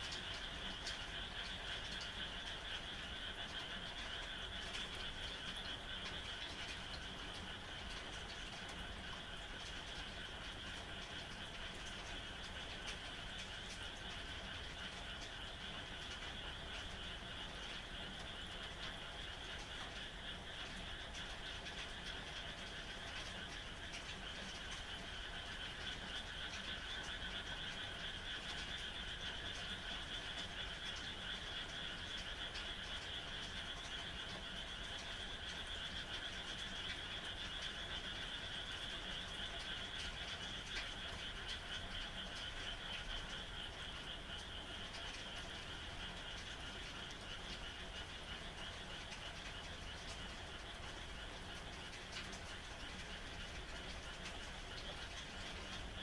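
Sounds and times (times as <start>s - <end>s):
frogs calling in a trill: 0.0s - 56.0s
steady rain: 0.0s - 56.0s.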